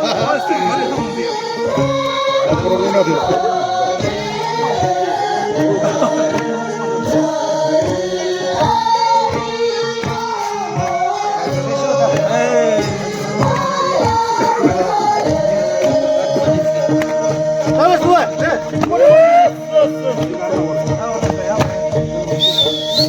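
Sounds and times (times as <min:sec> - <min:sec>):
musical accompaniment: 0:00.0 - 0:23.0
voices singing a melody: 0:00.0 - 0:23.0.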